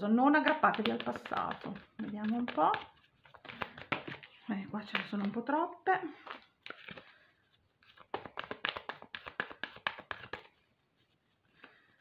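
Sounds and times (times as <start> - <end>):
cards being shuffled: 0.4 - 5.4, 6.2 - 12.0.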